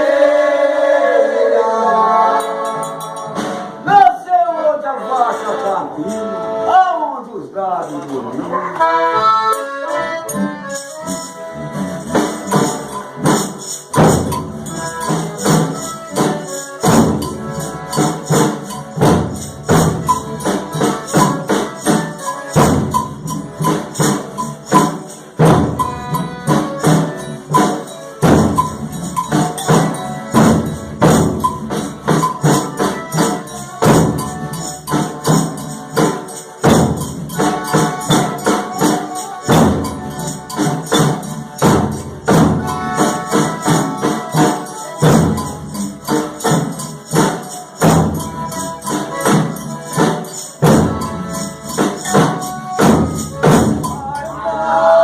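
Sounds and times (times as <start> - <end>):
accordion melody: 0.0 - 55.0
tambourines jingling: 2.4 - 3.5, 9.5 - 54.4.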